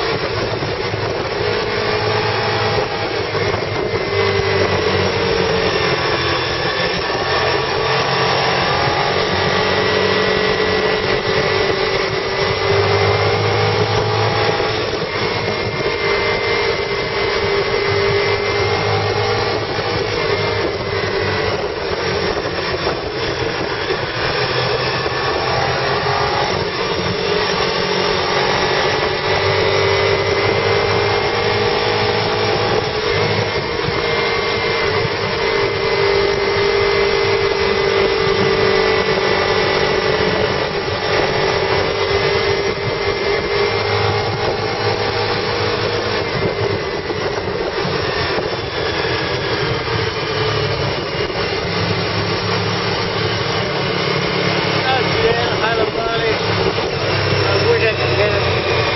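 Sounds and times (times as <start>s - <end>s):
car engine droning: 0.0s - 58.9s
road noise: 0.0s - 58.9s.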